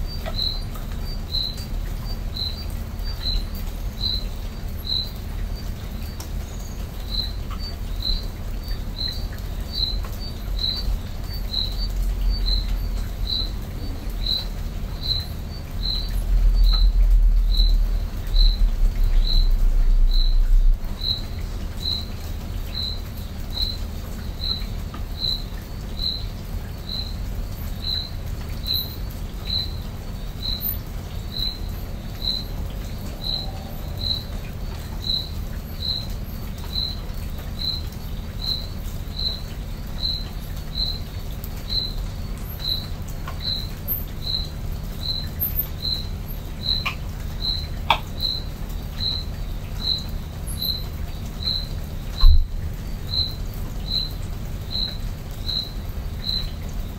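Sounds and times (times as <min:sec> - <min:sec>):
insect chirping: 0:00.0 - 0:56.9
low background rumble: 0:00.0 - 0:56.9.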